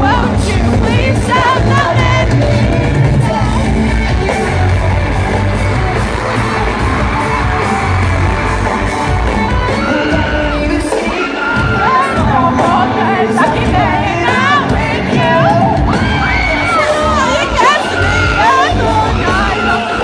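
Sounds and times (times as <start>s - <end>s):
crowd yelling along: 0.0s - 20.0s
live rock band playing loudly: 0.0s - 20.0s
person singing: 0.0s - 20.0s.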